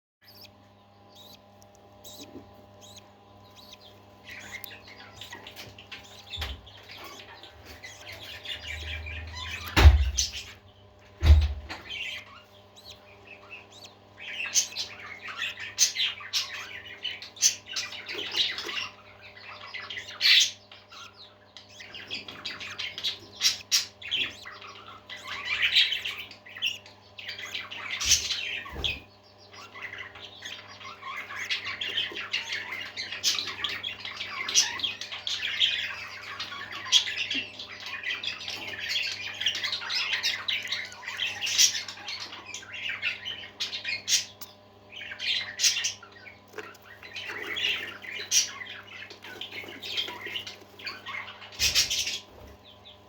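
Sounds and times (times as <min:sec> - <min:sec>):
parakeets chirping: 0:00.2 - 0:53.0.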